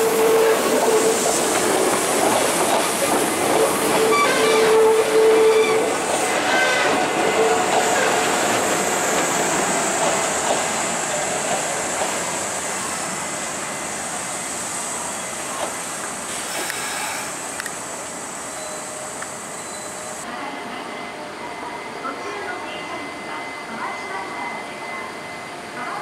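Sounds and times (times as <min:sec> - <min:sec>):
electric train rolling on track: 0:00.0 - 0:26.0.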